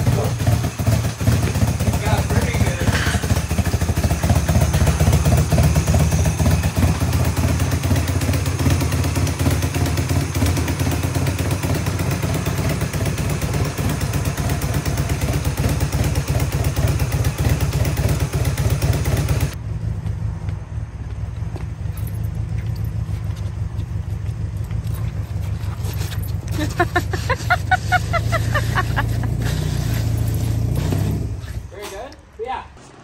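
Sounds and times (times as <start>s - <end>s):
motorcycle engine running: 0.0s - 31.7s.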